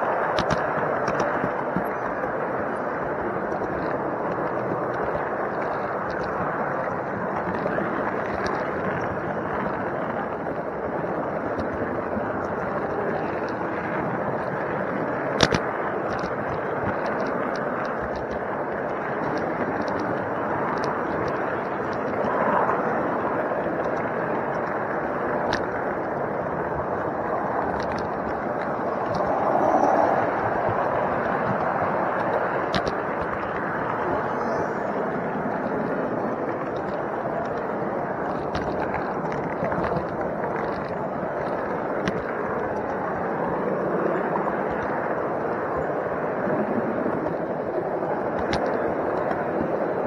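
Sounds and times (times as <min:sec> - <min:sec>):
faint clicks: 0:00.0 - 0:50.0.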